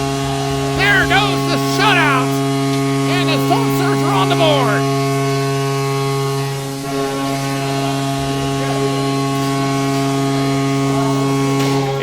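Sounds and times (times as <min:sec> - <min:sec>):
goal horn buzzing: 0:00.0 - 0:12.0.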